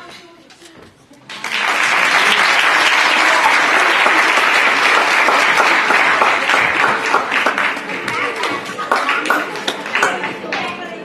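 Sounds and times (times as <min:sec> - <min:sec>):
audience applauding: 0:01.3 - 0:10.6.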